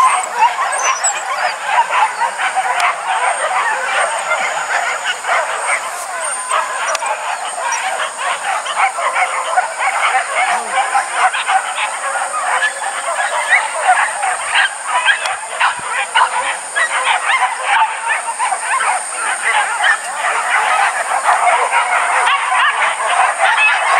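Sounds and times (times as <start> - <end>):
dogs yelping and baying: 0.0 - 23.9.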